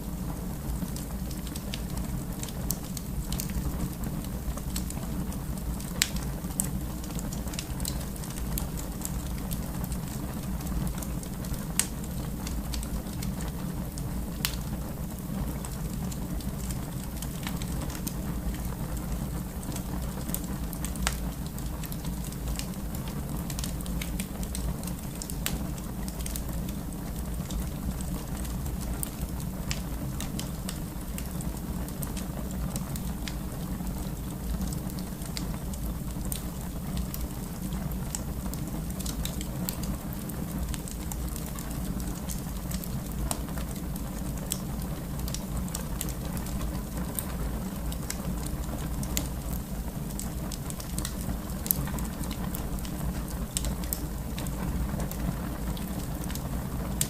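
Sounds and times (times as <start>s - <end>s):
fire crackling and popping: 0.0s - 57.0s
low rush of flames: 0.0s - 57.0s.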